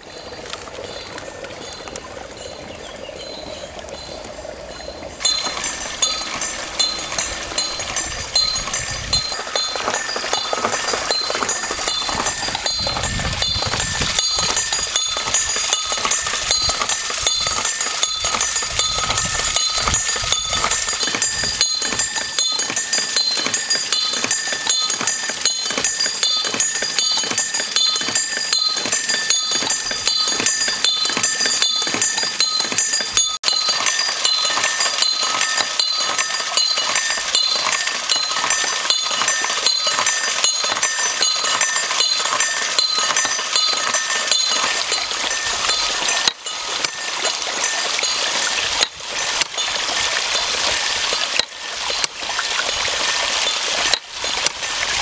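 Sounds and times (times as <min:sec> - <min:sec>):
bells clanging: 0:00.0 - 0:55.0
stream water splashing: 0:00.0 - 0:55.0.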